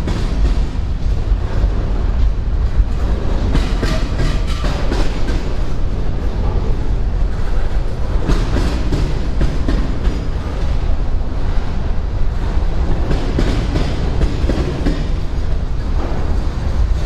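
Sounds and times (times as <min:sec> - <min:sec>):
freight train wheels clicking: 0:00.0 - 0:17.0.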